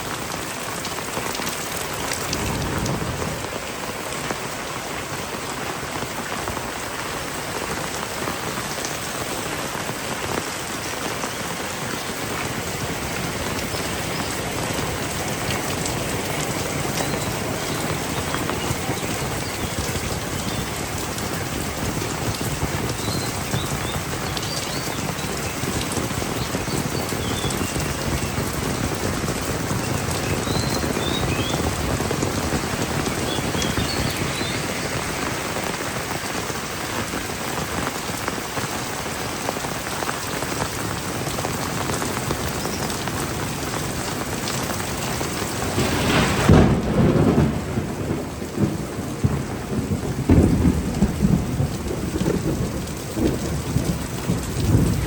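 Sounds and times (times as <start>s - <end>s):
heavy rain falling: 0.0s - 55.0s
thunder rumbling: 1.0s - 39.5s, 43.2s - 55.0s.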